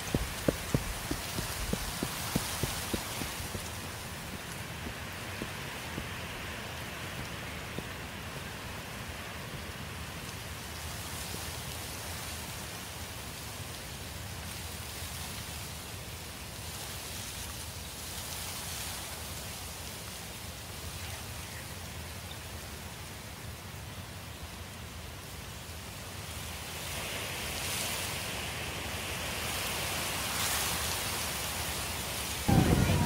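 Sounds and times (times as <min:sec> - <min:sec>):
steady rain-like hiss: 0:00.0 - 0:33.0.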